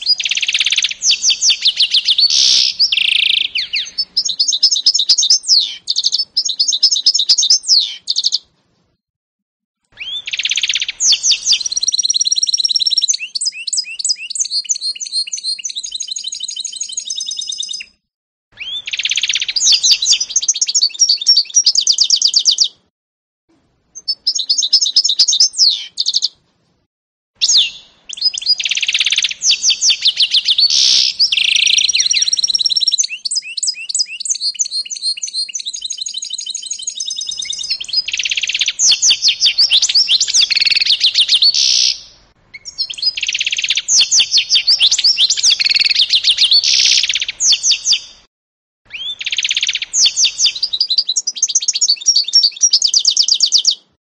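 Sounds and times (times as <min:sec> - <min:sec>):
bird singing trills: 0:00.0 - 0:08.4, 0:10.0 - 0:18.0, 0:18.6 - 0:22.7, 0:24.0 - 0:26.3, 0:27.4 - 0:48.2, 0:48.9 - 0:53.8.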